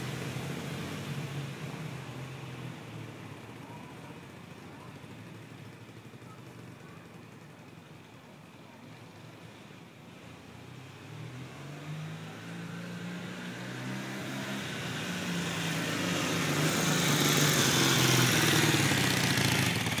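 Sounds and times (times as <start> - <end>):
motorcycle engine approaching: 0.0 - 9.5, 10.8 - 20.0.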